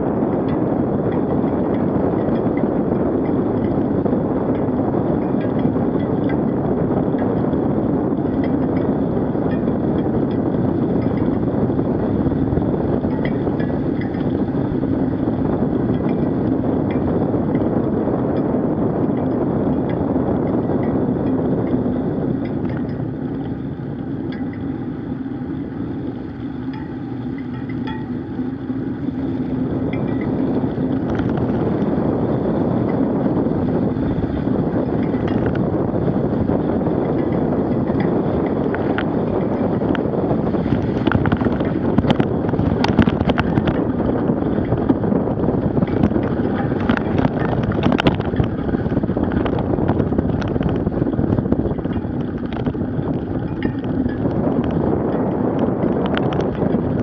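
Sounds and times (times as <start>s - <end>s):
bicycle tyre rolling on road: 0.0s - 57.0s
wind rushing over microphone: 0.0s - 57.0s.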